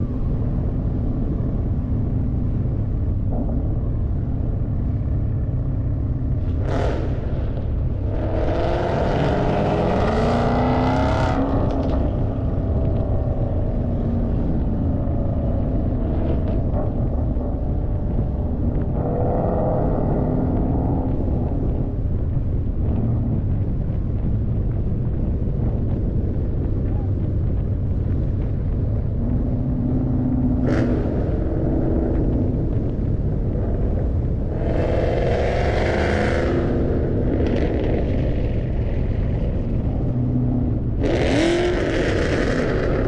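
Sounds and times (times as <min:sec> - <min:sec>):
car engine exhaust rumble: 0:00.0 - 0:43.0.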